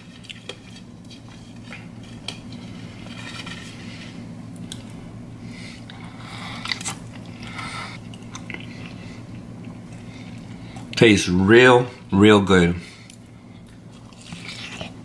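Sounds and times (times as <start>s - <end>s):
person chewing: 0.0s - 11.0s, 13.0s - 15.0s
steady low hum: 0.0s - 15.0s.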